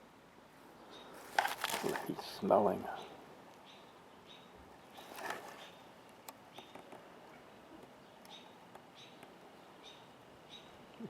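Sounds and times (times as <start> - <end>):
rustle: 0.0 - 11.0.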